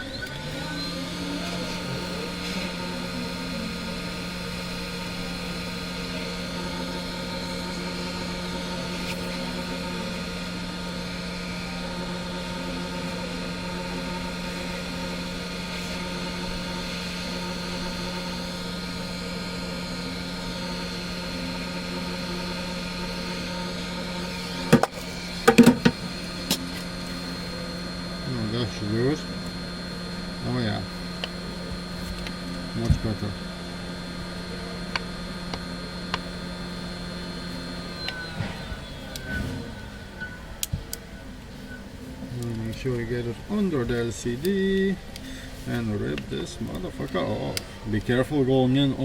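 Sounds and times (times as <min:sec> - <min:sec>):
hot air gun fan hum: 0:00.0 - 0:49.0.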